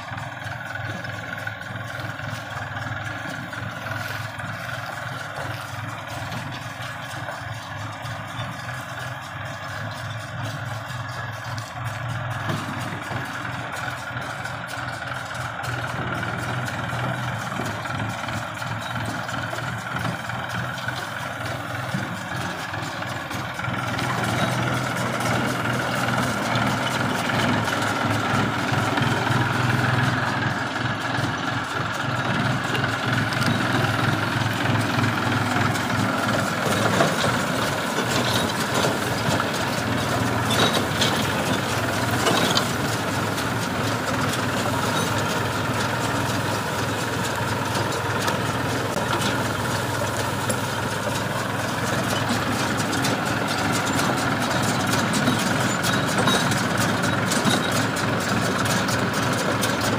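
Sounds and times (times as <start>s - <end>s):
tractor diesel engine running: 0.0s - 59.9s
loud engine knocks: 0.1s - 59.9s.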